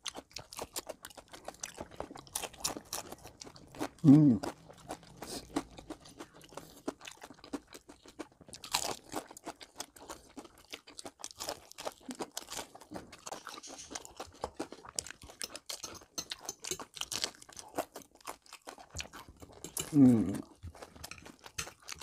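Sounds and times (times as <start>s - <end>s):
crunching fried chicken crust: 0.0s - 22.0s
people chewing: 0.0s - 22.0s.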